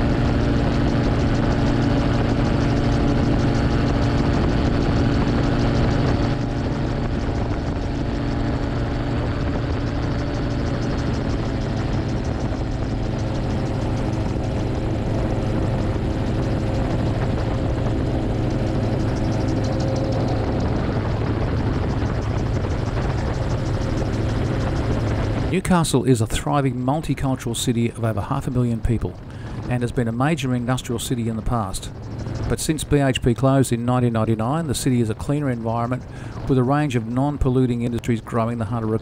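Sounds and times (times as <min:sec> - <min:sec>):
aircraft engine and propeller drone: 0:00.0 - 0:39.0
rushing wind: 0:00.0 - 0:39.0.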